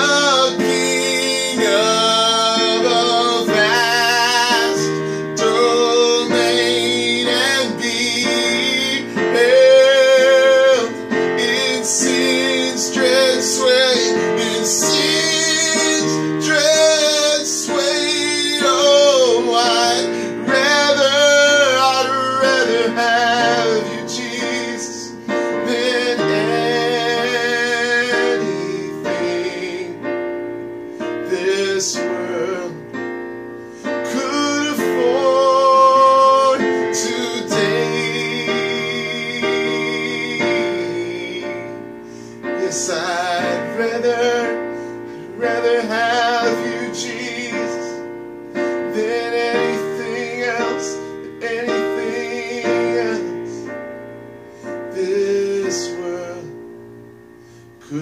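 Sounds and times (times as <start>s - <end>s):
digital piano chords: 0.0s - 58.0s
man singing with vibrato: 0.0s - 58.0s.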